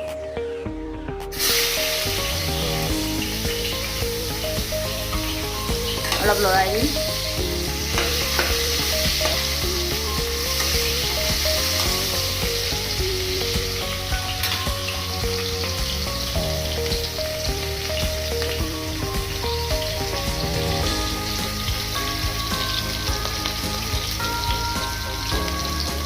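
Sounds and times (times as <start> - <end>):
onions sizzling in hot oil: 1.3 - 26.0.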